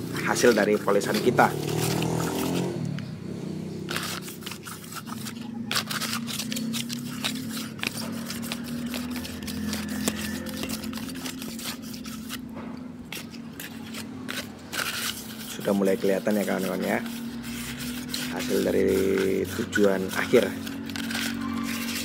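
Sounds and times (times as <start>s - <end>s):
cardboard scraping on metal: 0.0s - 2.9s, 3.9s - 22.0s.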